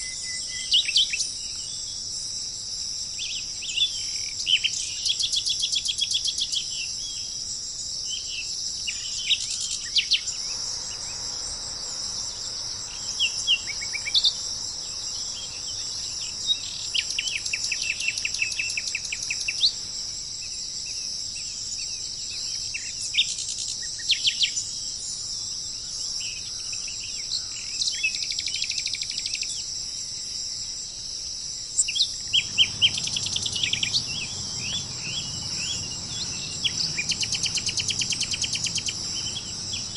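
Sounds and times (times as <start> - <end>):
insects chorus: 0.0 - 39.9
songbirds chirping and trilling: 0.0 - 39.9.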